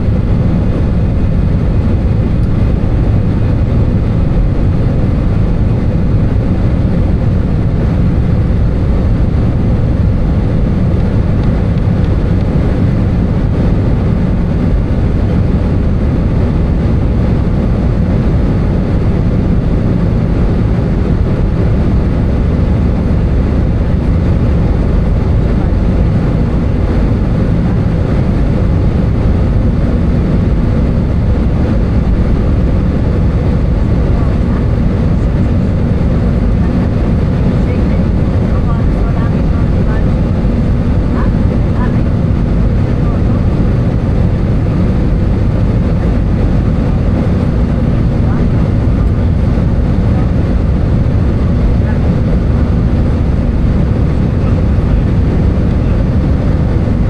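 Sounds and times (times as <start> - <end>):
air rushing along fuselage: 0.0 - 57.0
jet engines roaring: 0.0 - 57.0.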